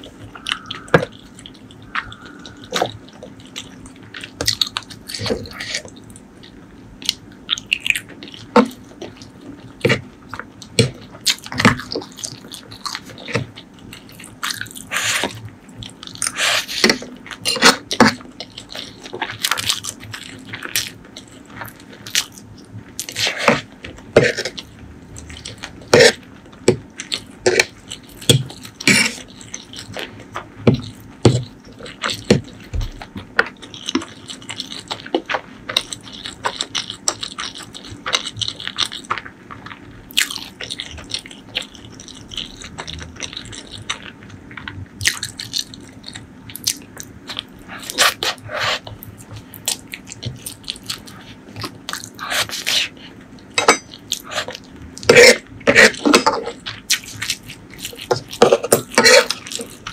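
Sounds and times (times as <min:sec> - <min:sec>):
wet chewing with mouth clicks: 0:00.0 - 0:59.9.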